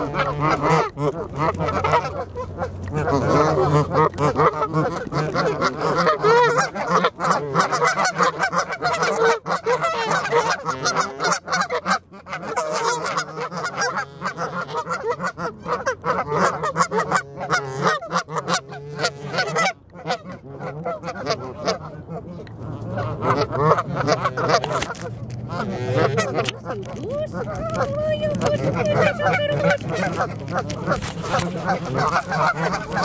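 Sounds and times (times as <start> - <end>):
geese honking: 0.0 - 33.0.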